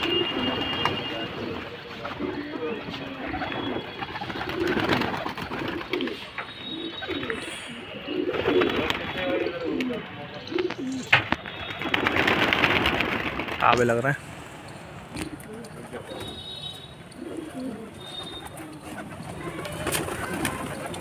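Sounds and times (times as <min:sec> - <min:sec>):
pigeons cooing: 0:00.0 - 0:13.3, 0:15.1 - 0:21.0.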